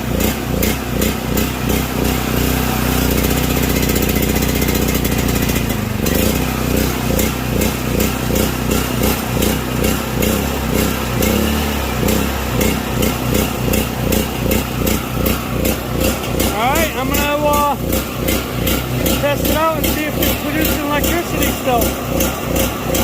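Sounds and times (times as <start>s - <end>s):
generator engine surging: 0.0s - 23.0s.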